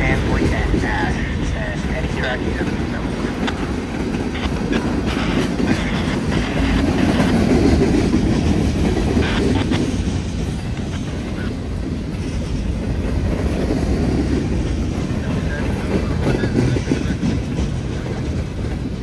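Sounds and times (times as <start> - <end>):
rumble of train wheels on rail: 0.0 - 19.0.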